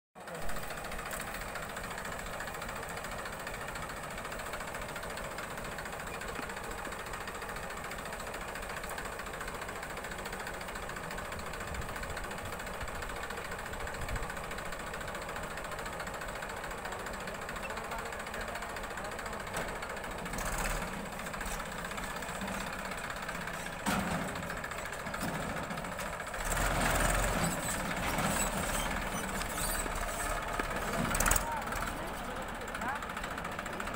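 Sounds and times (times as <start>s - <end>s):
diesel engines running: 0.2s - 33.9s
tractor pulling away: 0.3s - 33.9s.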